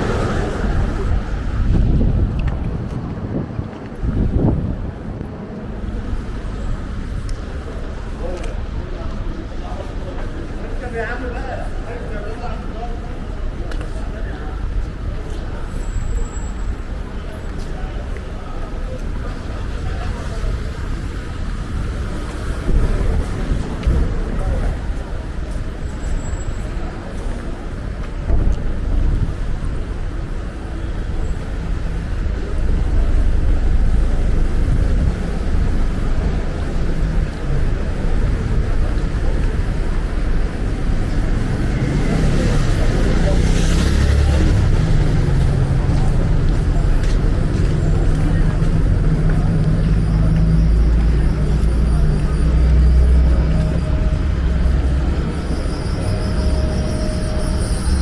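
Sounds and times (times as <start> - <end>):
street noise low rumble: 0.0 - 58.0.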